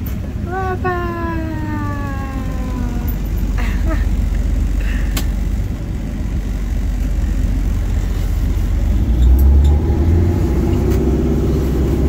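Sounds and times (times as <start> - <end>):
truck engine rumble from cab: 0.0 - 12.0.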